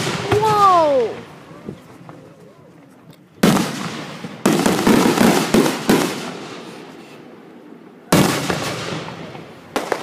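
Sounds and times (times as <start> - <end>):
fireworks bursting with echo: 0.0 - 2.2, 3.4 - 10.0.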